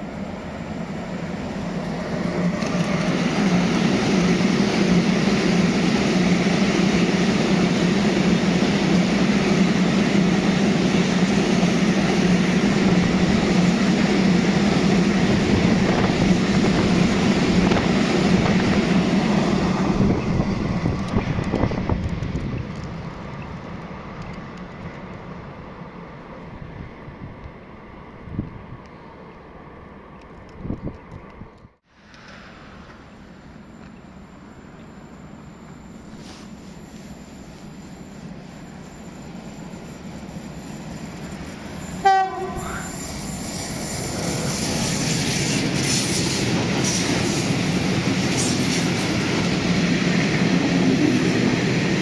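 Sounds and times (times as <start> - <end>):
freight train rumbling past: 0.0 - 30.8, 31.4 - 52.0.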